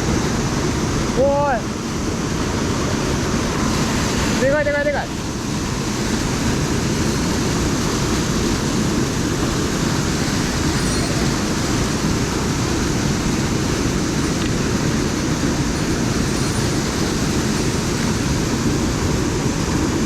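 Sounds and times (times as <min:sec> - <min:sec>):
stream water rushing over rocks: 0:00.0 - 0:20.0.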